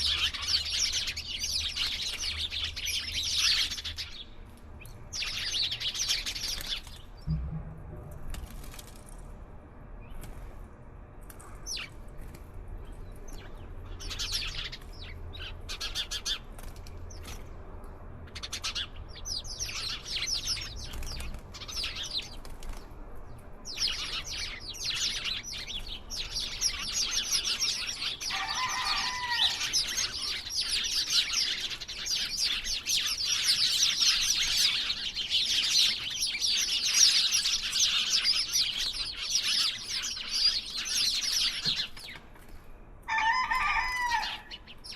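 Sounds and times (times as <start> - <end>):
small birds chirping: 0.0 - 7.8, 11.3 - 44.9.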